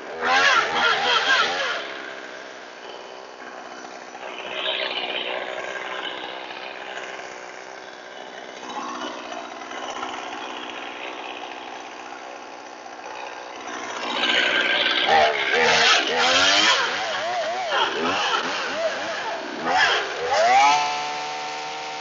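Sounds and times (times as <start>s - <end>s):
chainsaw sharpener grinding: 0.0s - 22.0s.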